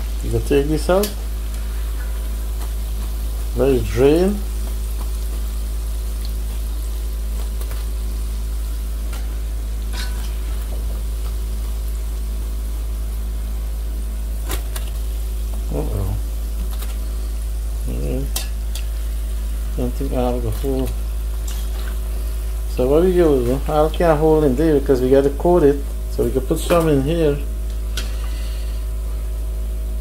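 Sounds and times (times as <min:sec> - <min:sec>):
dough sizzling in hot oil: 0:00.0 - 0:30.0.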